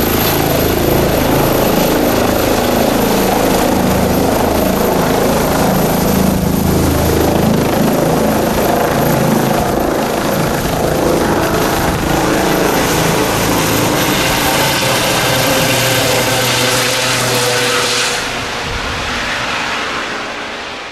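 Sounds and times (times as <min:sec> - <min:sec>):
helicopter rotor beat: 0:00.0 - 0:20.9.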